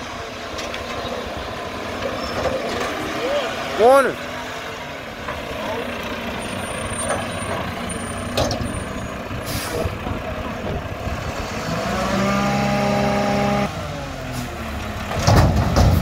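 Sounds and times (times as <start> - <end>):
garbage truck diesel engine: 0.0 - 16.0.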